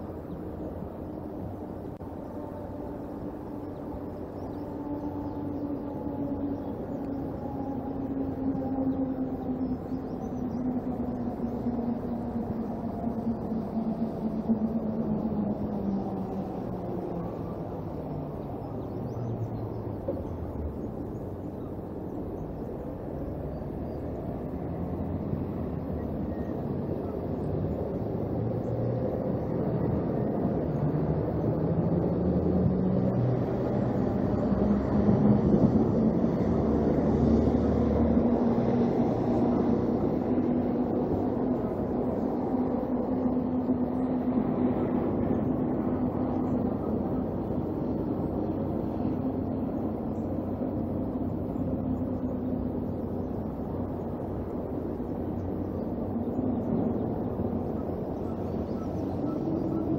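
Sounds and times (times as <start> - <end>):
distant engine rumble: 0.0 - 59.9.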